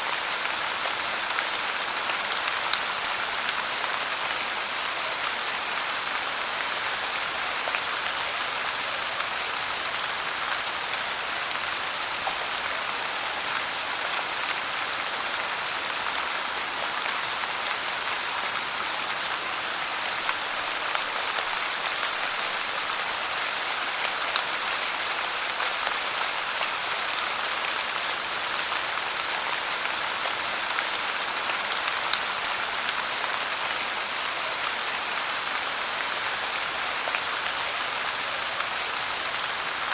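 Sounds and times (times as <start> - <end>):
rain pouring: 0.0 - 39.9.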